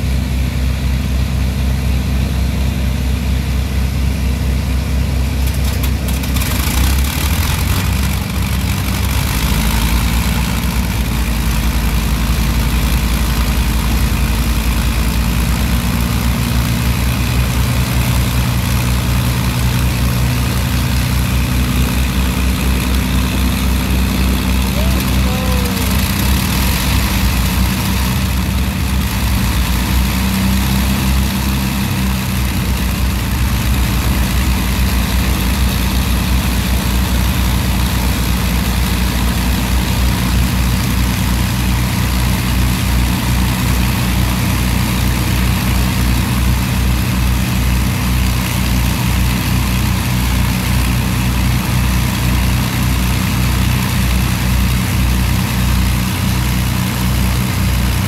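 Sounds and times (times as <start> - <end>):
aircraft engines idling: 0.0 - 58.0.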